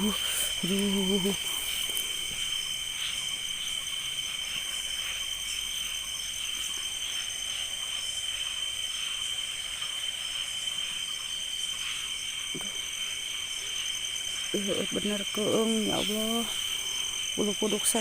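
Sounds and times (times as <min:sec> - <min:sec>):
crickets and insects trilling: 0:00.0 - 0:18.0.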